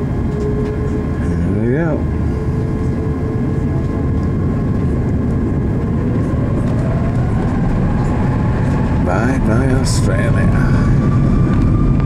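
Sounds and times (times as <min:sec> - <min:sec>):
jet engine and airflow noise: 0:00.0 - 0:12.0.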